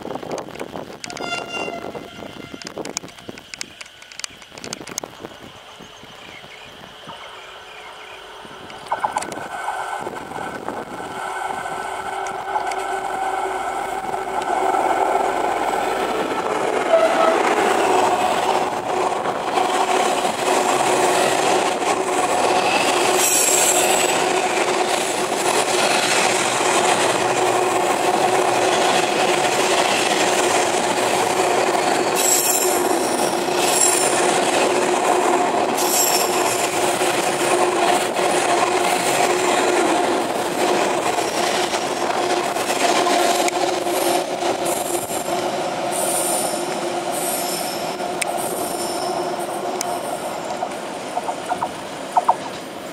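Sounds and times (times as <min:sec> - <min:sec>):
diesel locomotive passing: 0:00.0 - 0:52.9
wheels humming on rail: 0:00.0 - 0:52.9.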